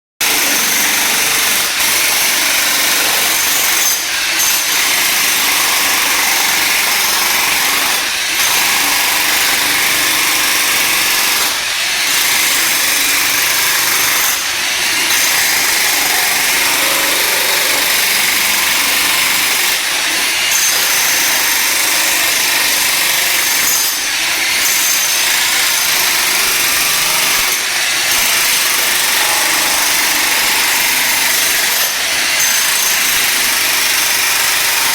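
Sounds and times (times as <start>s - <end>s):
electric jackhammer breaking tile: 0.2s - 34.9s.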